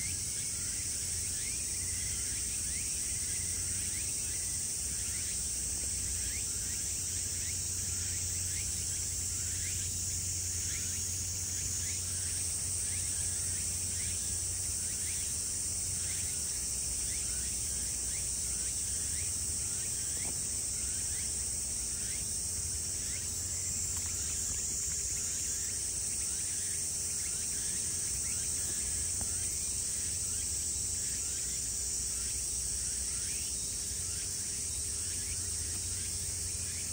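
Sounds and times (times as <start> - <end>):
insect chorus drone: 0.0 - 36.9.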